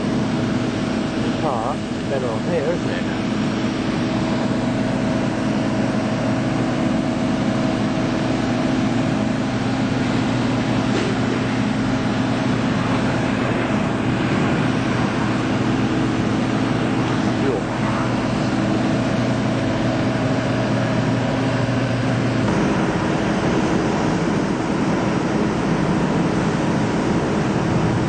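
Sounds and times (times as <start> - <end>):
steady machine drone: 0.0 - 28.0.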